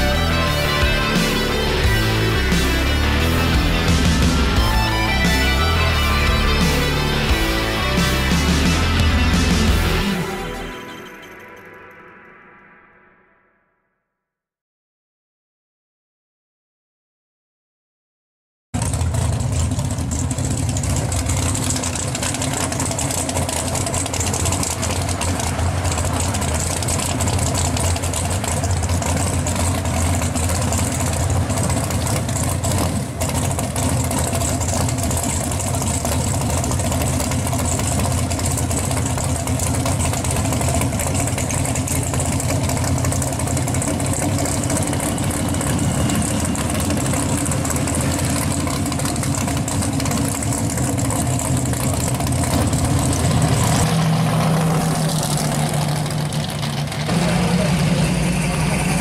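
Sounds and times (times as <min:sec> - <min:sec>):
car engine idling with deep rumble: 0:00.0 - 0:10.7, 0:18.8 - 0:59.0.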